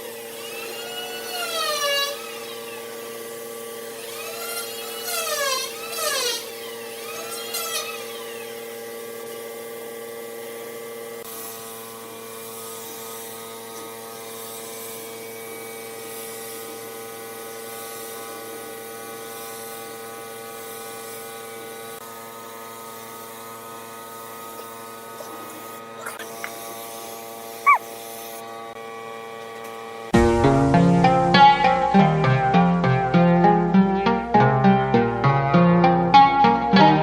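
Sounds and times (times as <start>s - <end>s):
small electric motor humming: 0.0s - 29.9s.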